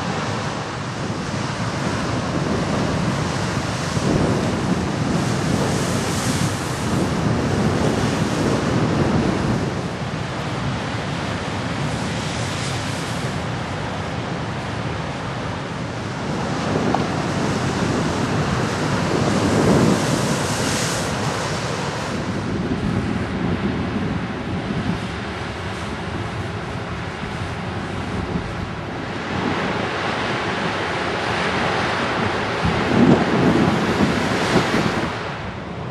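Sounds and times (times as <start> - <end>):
ocean surf washing in: 0.0 - 35.9
wind on microphone: 0.0 - 35.9.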